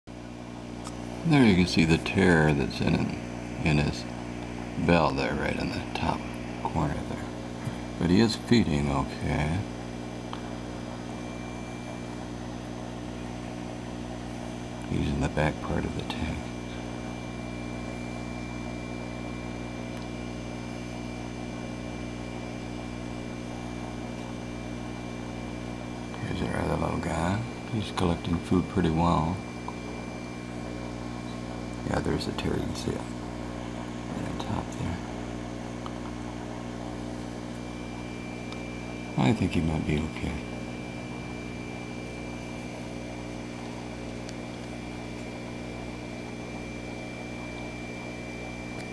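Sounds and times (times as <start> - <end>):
faint high whine: 0.1 - 48.9
low electrical hum: 0.1 - 48.9.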